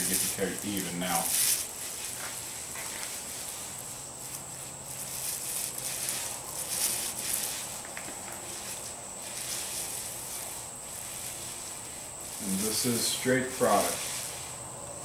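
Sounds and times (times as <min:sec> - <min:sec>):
paint roller on wet coating: 0:00.0 - 0:15.0.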